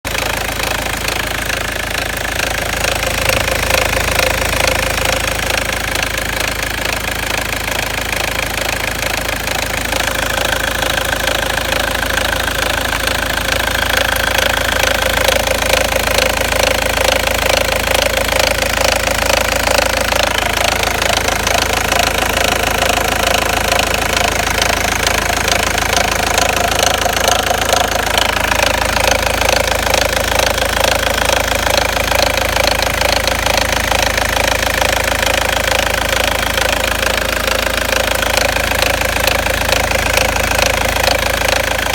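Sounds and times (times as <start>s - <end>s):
car engine with fast ticking: 0.0s - 41.9s.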